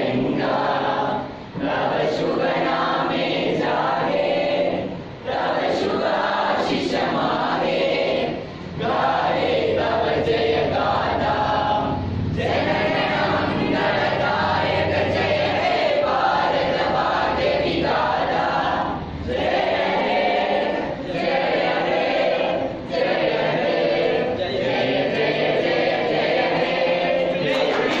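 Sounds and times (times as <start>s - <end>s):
group singing in unison: 0.0s - 28.0s.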